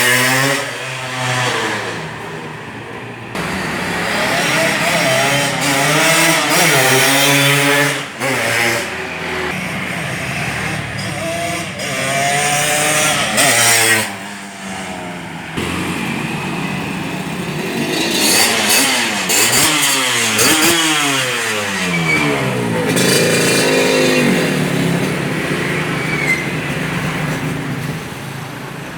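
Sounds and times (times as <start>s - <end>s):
motorcycle engine revving: 0.0s - 2.7s, 3.3s - 28.5s.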